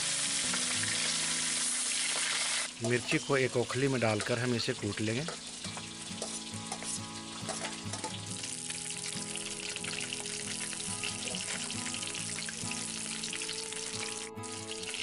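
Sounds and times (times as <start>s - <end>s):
background music: 0.0s - 15.0s
fish sizzling in oil: 0.0s - 15.0s.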